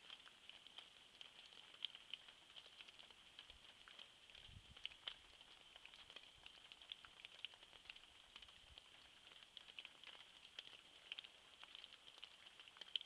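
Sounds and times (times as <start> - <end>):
small irregular ticks: 0.0 - 13.0.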